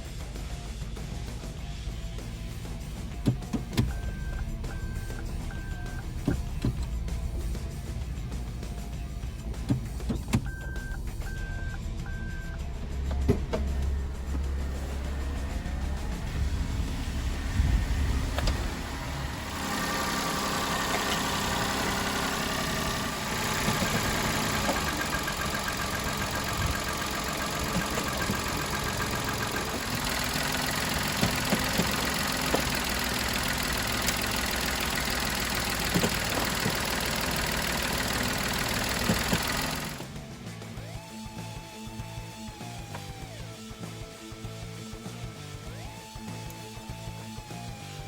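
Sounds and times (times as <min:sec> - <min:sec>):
car engine idling: 0:00.0 - 0:44.2.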